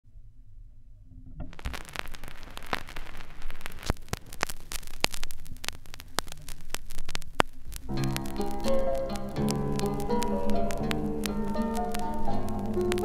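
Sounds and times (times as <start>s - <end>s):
vinyl record crackle and hiss: 1.4s - 13.0s.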